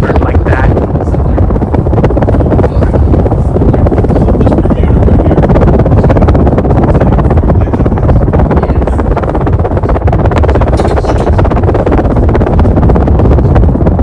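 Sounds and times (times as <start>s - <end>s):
ceiling fan rushing: 0.0s - 14.0s
wind buffeting microphone: 0.0s - 14.0s.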